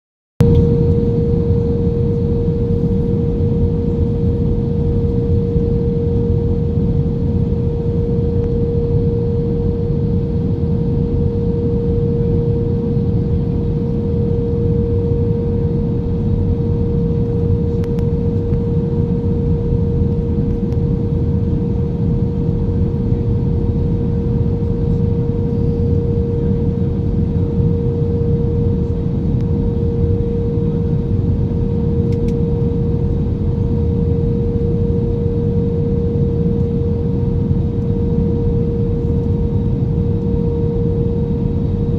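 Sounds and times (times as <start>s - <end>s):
mid-pitched hum: 0.4s - 41.9s.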